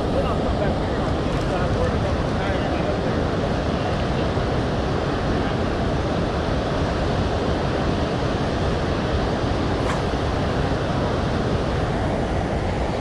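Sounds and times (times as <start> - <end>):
water roaring through spillway: 0.0 - 13.0.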